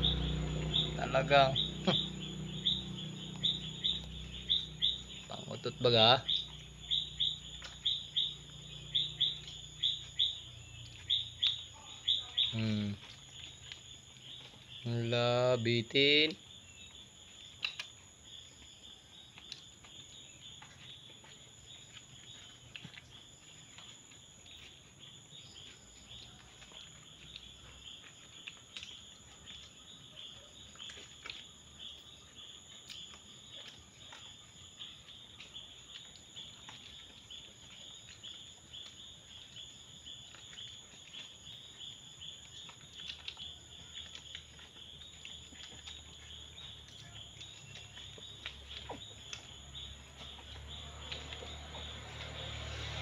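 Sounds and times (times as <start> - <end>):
puppies suckling clicks and smacks: 1.6 - 53.0.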